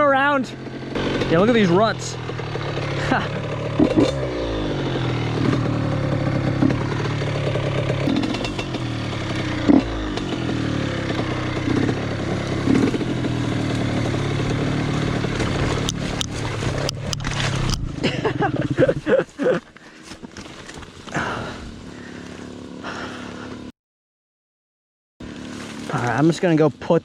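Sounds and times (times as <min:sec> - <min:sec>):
dirt bike engine revving: 0:00.0 - 0:23.7, 0:25.2 - 0:26.6.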